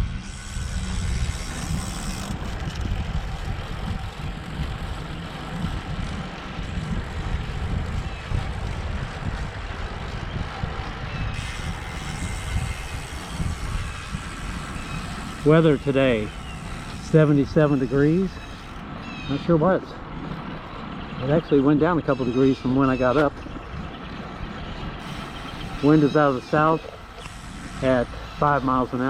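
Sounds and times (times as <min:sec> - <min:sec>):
road and tyre noise: 0:00.0 - 0:29.0
wind rumble on microphone: 0:00.0 - 0:29.0.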